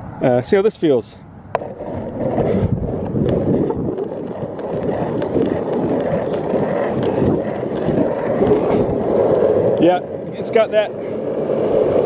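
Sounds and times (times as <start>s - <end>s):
skateboard wheels rolling on asphalt: 1.4s - 12.0s.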